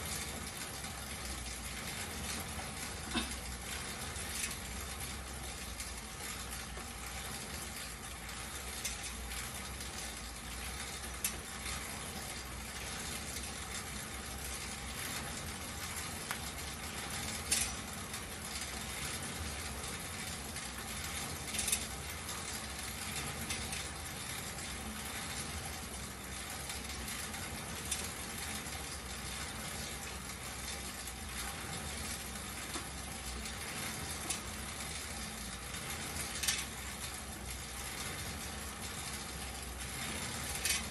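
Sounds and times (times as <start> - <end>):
air bike fan whirring: 0.0 - 40.9
sharp clicks from bike parts: 0.0 - 40.9.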